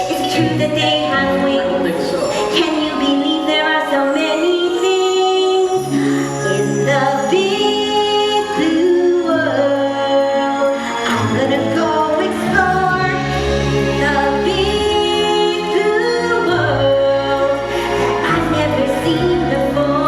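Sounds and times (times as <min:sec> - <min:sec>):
voices singing musical theatre song: 0:00.0 - 0:20.0.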